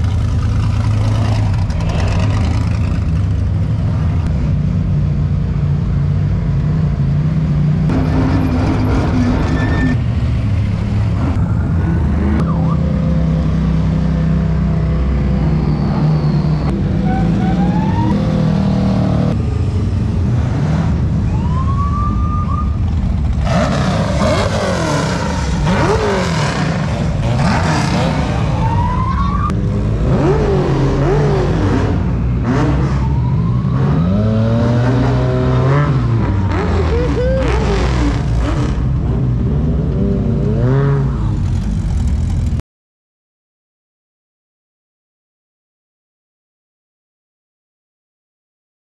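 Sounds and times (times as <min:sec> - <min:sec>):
race car engines revving: 0:00.0 - 0:42.6.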